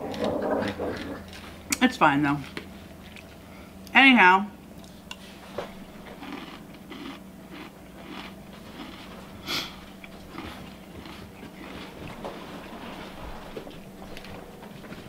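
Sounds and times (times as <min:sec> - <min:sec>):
chewing crunchy cereal: 0:00.0 - 0:03.5, 0:04.8 - 0:15.0
steady low hum: 0:00.0 - 0:15.0.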